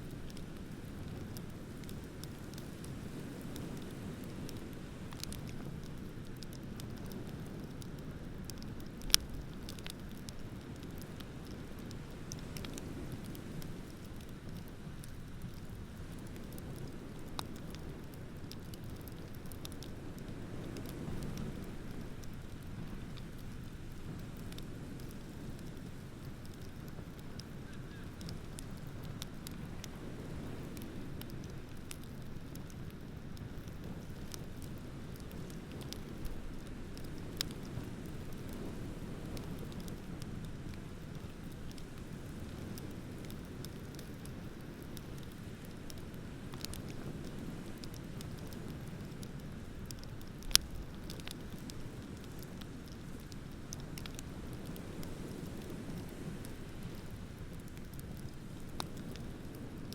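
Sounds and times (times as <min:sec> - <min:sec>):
wood bonfire crackling: 0:00.0 - 0:59.9
fire pops: 0:00.1 - 0:59.9.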